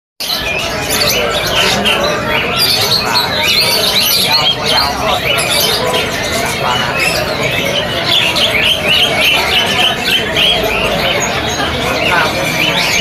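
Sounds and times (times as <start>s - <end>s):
murmur of people: 0.2s - 13.0s
songbirds chirping: 0.2s - 13.0s.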